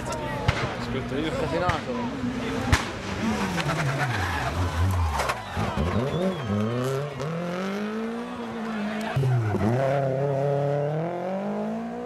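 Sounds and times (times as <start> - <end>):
rally car engine accelerating: 2.2 - 12.0.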